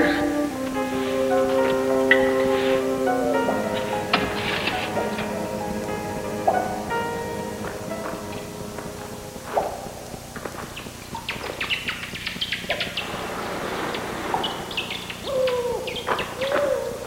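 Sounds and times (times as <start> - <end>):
high squeaks and chirps: 0.0 - 16.6
low downward gliding hoots: 0.0 - 17.0.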